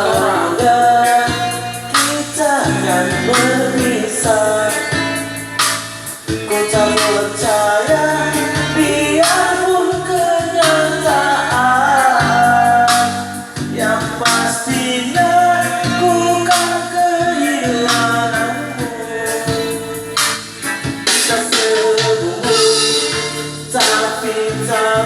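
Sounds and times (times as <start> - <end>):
band with bass and percussion: 0.0 - 25.0
person singing: 0.0 - 25.0.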